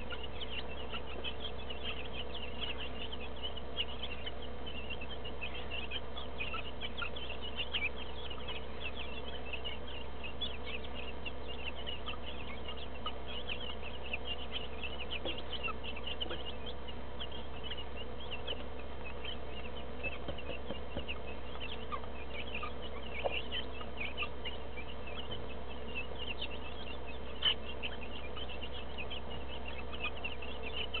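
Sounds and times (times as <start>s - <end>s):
chicks peeping: 0.0s - 31.0s
low hum: 0.0s - 31.0s.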